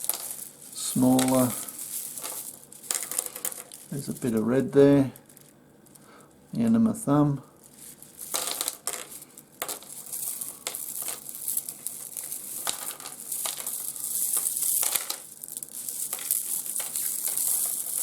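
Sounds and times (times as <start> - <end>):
stones rustling and clicking: 0.0 - 4.4, 7.6 - 18.0.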